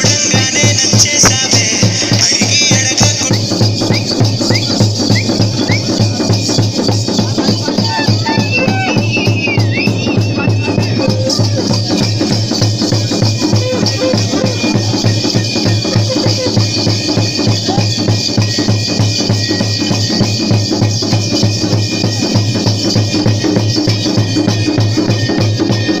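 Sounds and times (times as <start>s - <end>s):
ankle bells jingling: 0.0s - 26.0s
drums beating fast rhythm: 0.0s - 26.0s.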